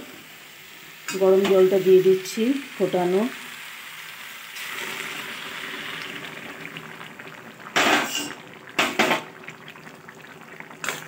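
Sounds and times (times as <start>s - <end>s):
water sizzling in hot pan: 0.0s - 11.0s.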